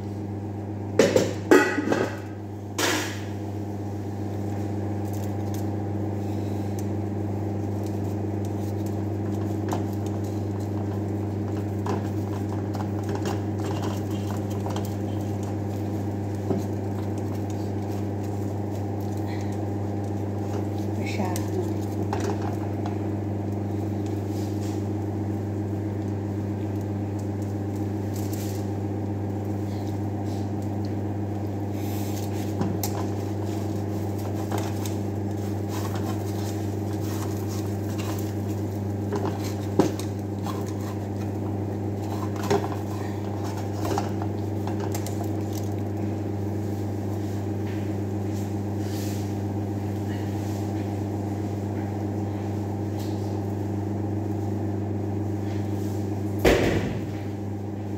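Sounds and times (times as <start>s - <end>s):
extractor fan humming: 0.0s - 57.9s.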